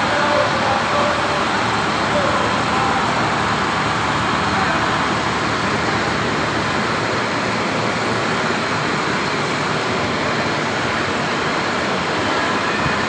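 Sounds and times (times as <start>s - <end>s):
drilling rig rushing noise: 0.0s - 12.0s.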